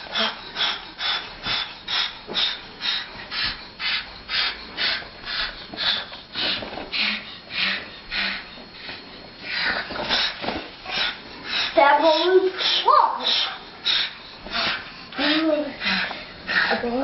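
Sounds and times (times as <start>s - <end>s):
parrot hissing: 0.0s - 17.0s.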